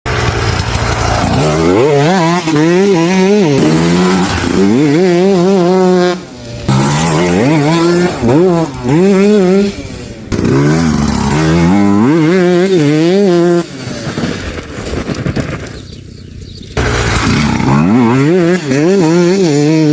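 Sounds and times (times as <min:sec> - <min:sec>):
two-stroke motorcycle engine revving: 0:00.1 - 0:19.9.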